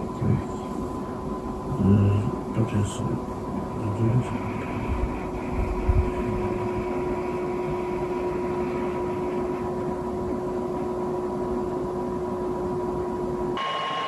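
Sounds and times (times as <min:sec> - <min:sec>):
machine-like hum: 0:00.0 - 0:14.0.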